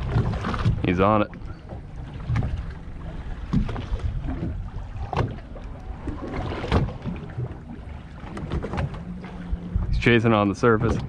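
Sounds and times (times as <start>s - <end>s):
low steady hum: 0.0s - 11.0s
water slapping boat hull: 0.0s - 11.0s.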